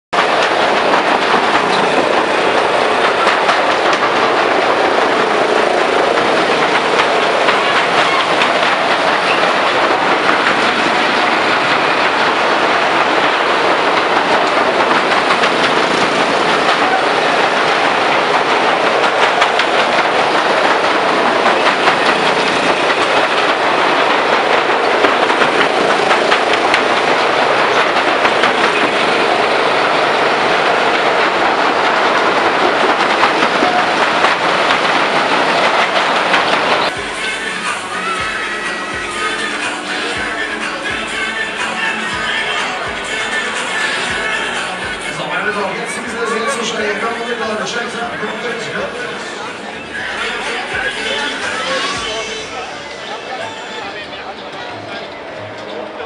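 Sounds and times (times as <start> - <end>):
ride cars rumbling on wooden track: 0.2 - 56.0.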